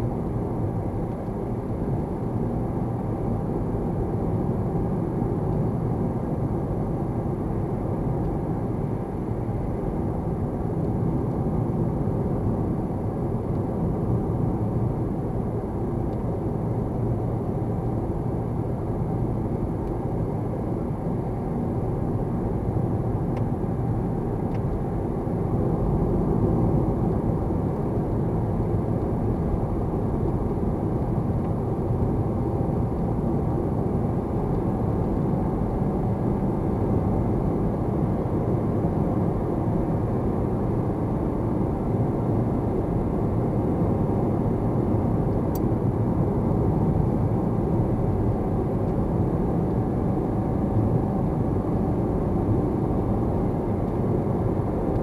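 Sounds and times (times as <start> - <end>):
car road noise: 0.0 - 55.0.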